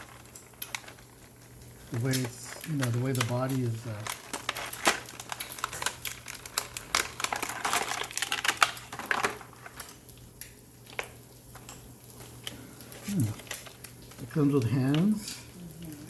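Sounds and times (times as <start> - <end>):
plastic packaging clicks and crinkles: 0.0 - 16.0.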